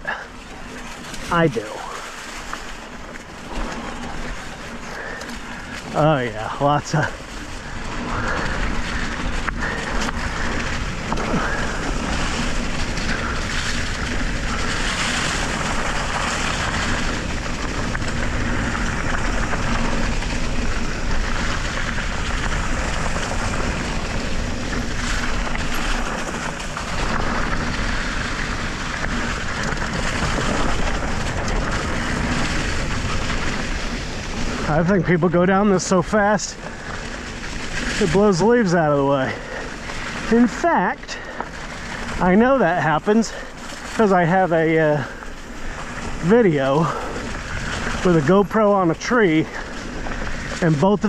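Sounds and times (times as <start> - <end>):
bike tyres rolling on dirt: 0.0 - 51.0.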